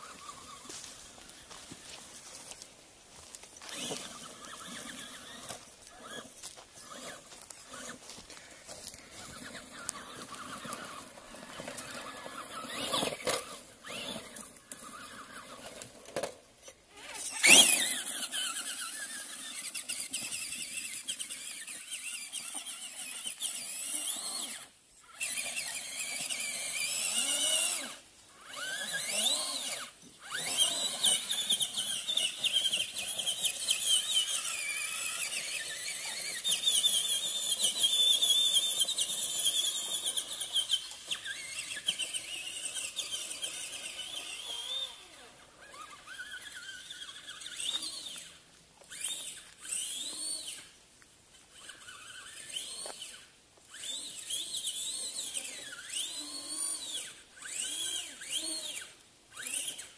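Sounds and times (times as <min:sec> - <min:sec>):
toy truck electric motor whining: 0:00.0 - 0:02.6, 0:03.3 - 0:50.8, 0:51.4 - 0:59.9.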